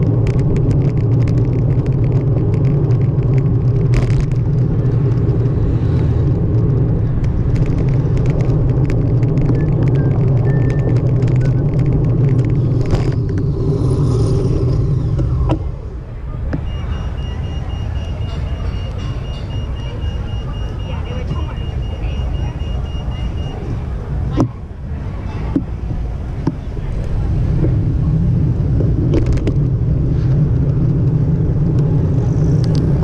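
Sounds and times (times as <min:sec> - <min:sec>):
road noise: 0:00.0 - 0:33.0
wind rumbling on microphone: 0:00.0 - 0:33.0.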